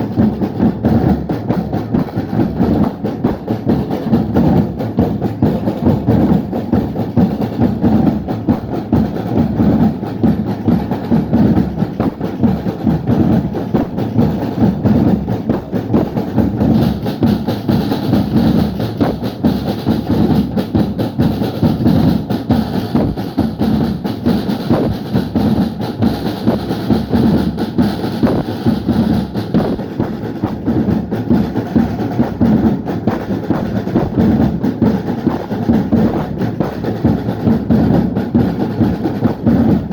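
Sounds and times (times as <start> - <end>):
drum band playing: 0.0 - 39.9.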